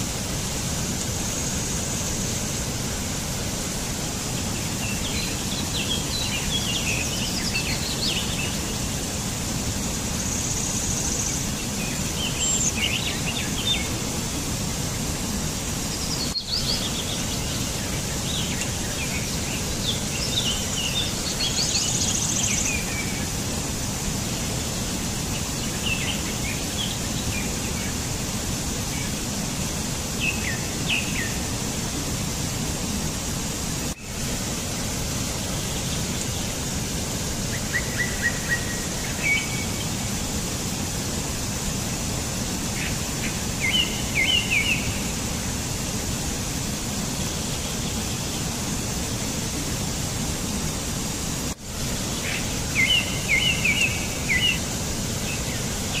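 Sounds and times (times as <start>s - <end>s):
outdoor ambience hiss: 0.0s - 56.0s.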